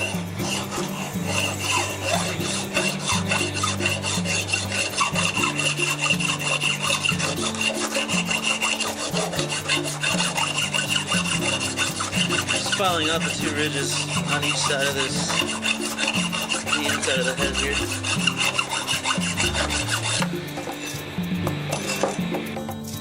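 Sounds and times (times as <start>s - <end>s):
background music: 0.0s - 23.0s
hand file scraping steel: 0.0s - 23.0s.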